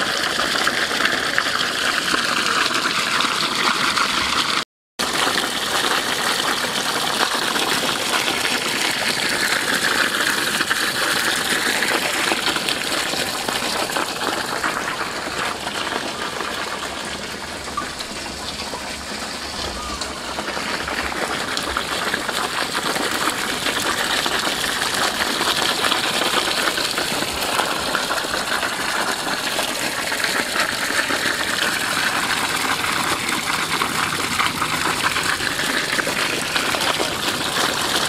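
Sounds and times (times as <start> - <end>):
pump motor running: 0.0 - 38.0
water pouring from a pipe: 0.0 - 38.0.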